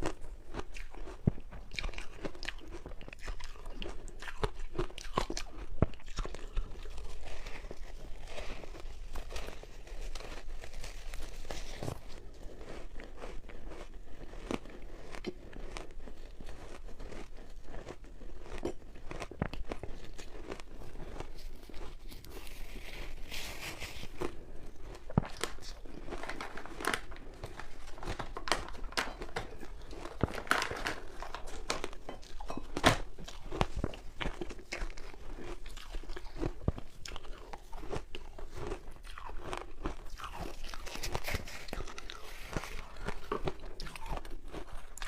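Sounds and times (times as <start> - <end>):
ice being chewed with crunches: 0.0 - 45.0.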